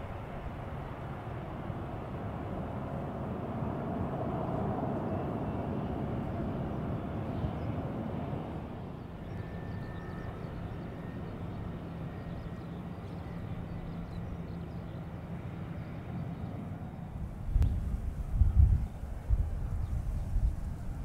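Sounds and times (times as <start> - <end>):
distant jet engine rumble: 0.0 - 21.0.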